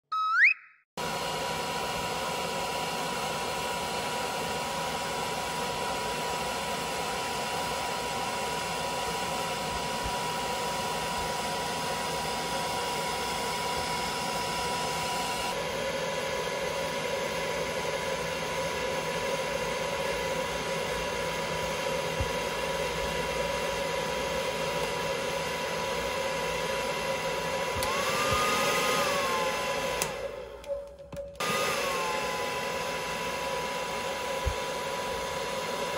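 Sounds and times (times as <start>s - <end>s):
hair dryer blowing: 1.0s - 35.9s.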